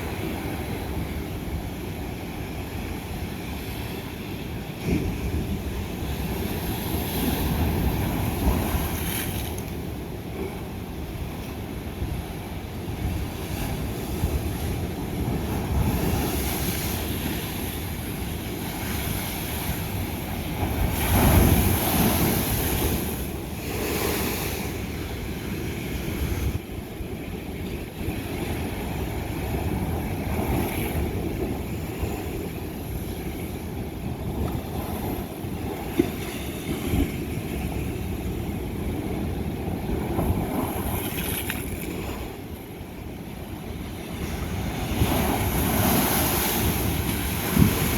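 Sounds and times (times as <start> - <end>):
ocean waves breaking on rock: 0.0 - 42.7, 43.5 - 47.9.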